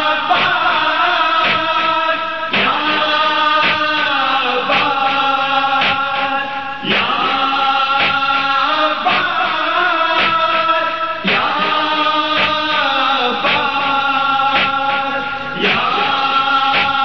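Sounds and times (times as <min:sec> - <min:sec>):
sharp rhythmic beats: 0:00.0 - 0:17.0
voices chanting lamentation: 0:00.0 - 0:17.0.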